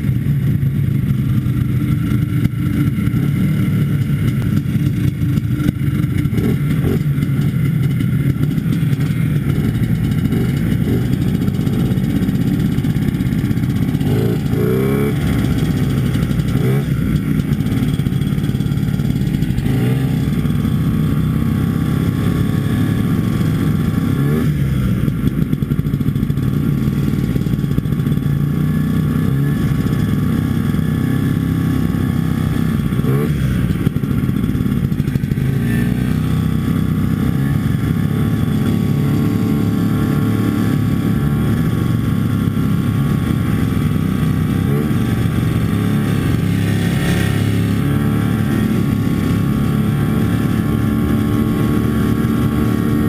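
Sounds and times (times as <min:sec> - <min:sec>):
snowmobile engine running: 0:00.0 - 0:53.0.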